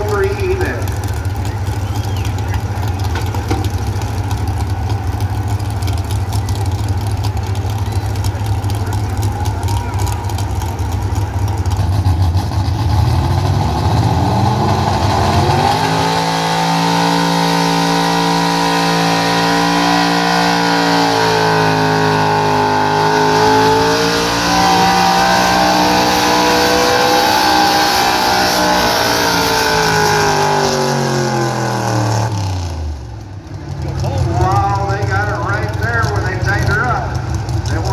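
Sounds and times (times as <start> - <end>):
truck engine at full throttle: 0.0 - 37.9.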